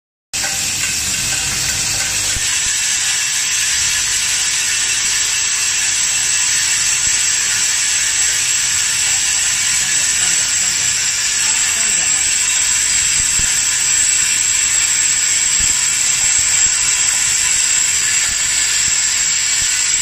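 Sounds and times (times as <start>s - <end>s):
machine rattling and hissing: 0.4s - 20.0s.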